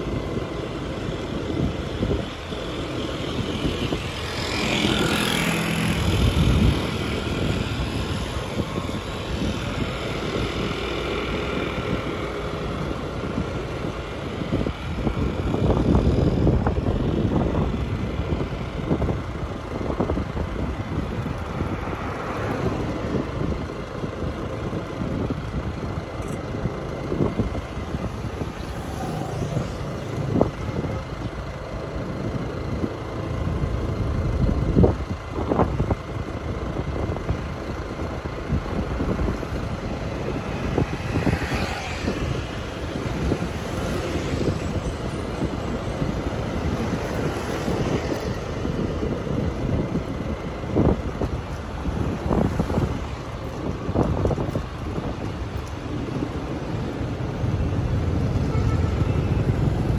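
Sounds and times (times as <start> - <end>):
vehicle and road rumble: 0.0 - 59.9
wind buffeting microphone: 0.0 - 59.9.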